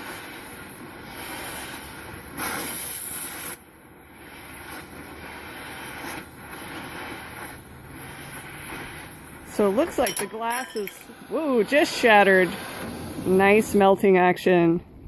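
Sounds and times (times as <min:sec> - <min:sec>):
cutting torch flame hissing: 0:00.0 - 0:14.4.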